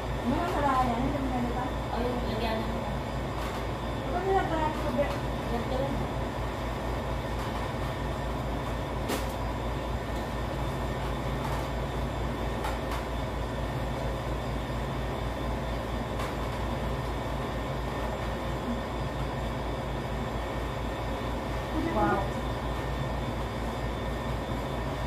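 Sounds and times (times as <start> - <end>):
low mechanical hum and rumble: 0.0 - 25.0.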